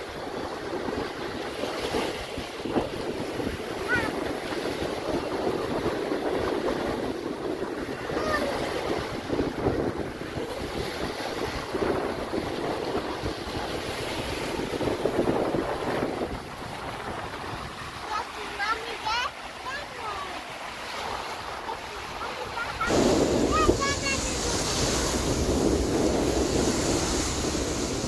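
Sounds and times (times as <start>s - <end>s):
waves washing on sandy shore: 0.0s - 28.0s
wind buffeting microphone: 0.0s - 28.0s.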